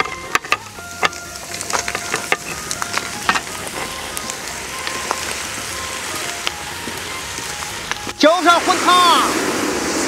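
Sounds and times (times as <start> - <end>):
fish sizzling on hot stones: 0.0 - 10.0.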